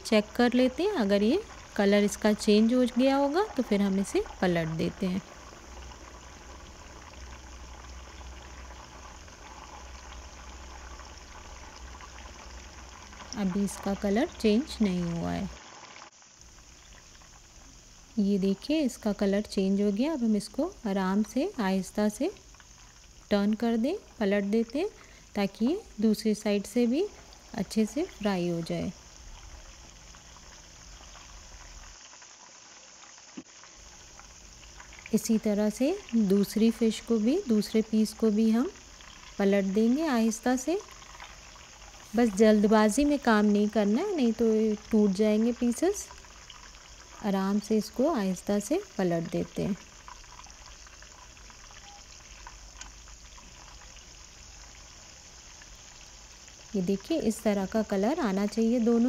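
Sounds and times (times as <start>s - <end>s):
fish frying in oil: 0.0s - 59.0s.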